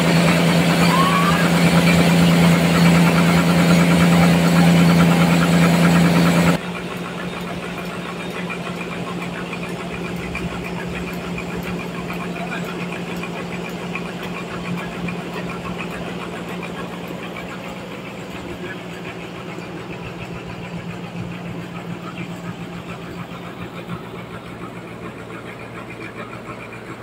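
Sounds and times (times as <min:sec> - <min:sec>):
band sawmill humming: 0:00.0 - 0:27.0
machine ticking: 0:01.2 - 0:27.0.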